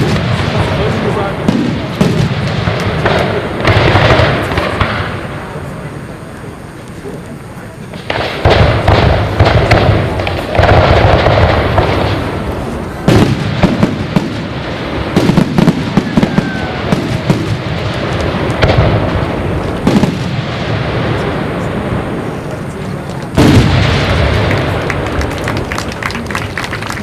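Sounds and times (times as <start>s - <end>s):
fireworks booming: 0.0s - 27.0s
fireworks crackling and popping: 0.0s - 27.0s.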